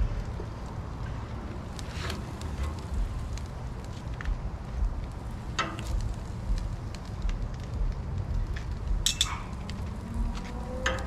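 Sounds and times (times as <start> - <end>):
low rumble: 0.0 - 11.0
bacon sizzling and popping: 1.3 - 11.0.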